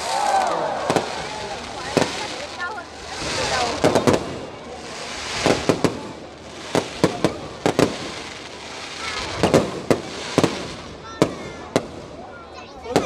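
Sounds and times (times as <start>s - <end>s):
fireworks bangs: 0.0s - 13.0s
fireworks hiss: 0.0s - 13.0s.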